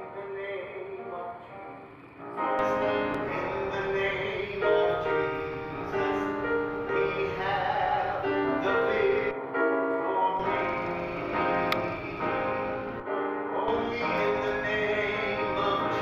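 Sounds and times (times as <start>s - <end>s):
grand piano chords: 0.0s - 16.0s.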